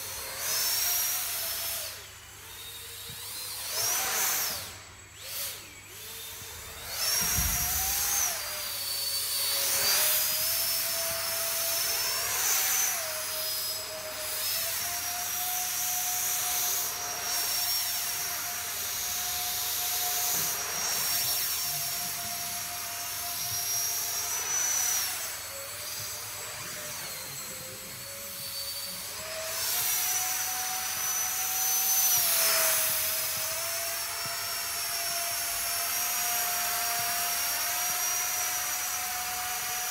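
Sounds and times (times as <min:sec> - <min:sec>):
electric ducted fan whining: 0:00.0 - 0:39.9.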